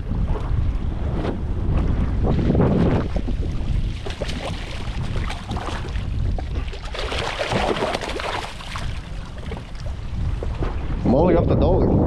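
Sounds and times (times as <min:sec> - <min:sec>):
water washing around boat: 0:00.0 - 0:11.2
wind buffeting microphone: 0:00.0 - 0:12.0
knocks and splashes: 0:01.2 - 0:11.0.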